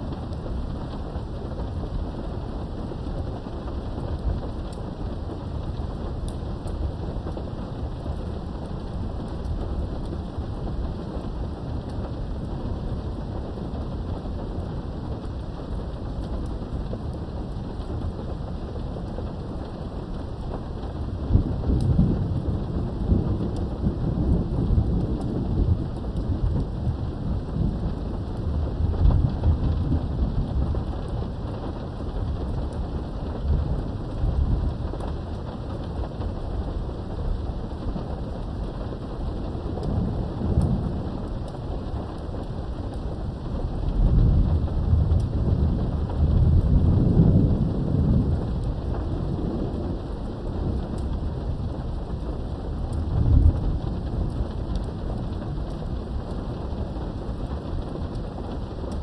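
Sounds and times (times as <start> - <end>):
low rumble of thunder: 0.0 - 59.0
steady rain: 0.0 - 59.0.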